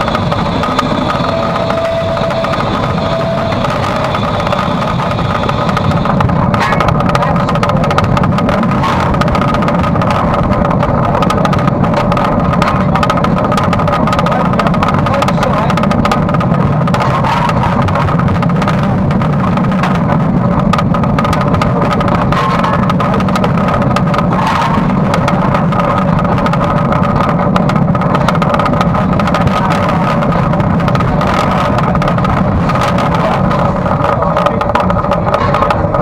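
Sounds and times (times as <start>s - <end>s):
humming tones: 0.0s - 36.0s
small knocks and rattles: 0.0s - 36.0s
steam locomotive rumble and clatter: 0.0s - 36.0s.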